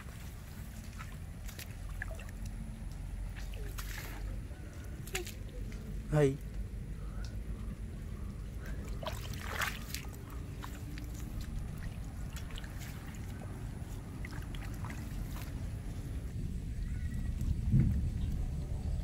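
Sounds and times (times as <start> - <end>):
splashing in a muddy puddle: 0.0 - 6.4, 7.2 - 16.4
steady low rumble: 0.0 - 19.0.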